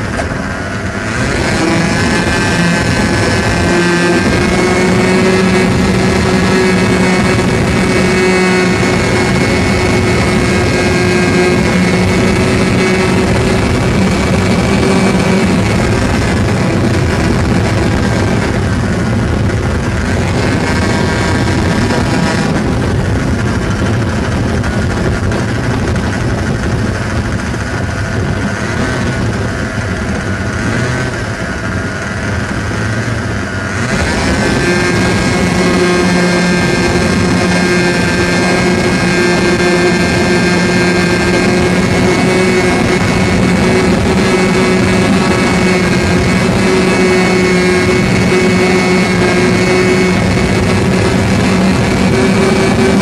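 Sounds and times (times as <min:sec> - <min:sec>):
model airplane engine: 0:00.0 - 0:53.0.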